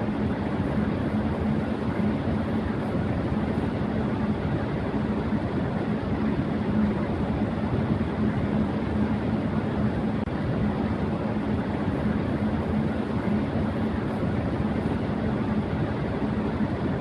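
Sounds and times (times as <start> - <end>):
electric fan whooshing: 0.0 - 17.0.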